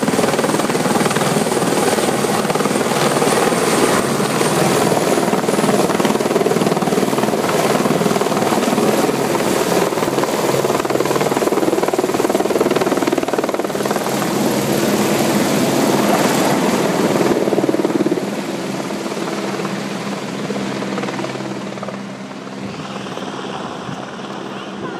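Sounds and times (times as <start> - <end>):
helicopter rotor and turbine: 0.0 - 24.9.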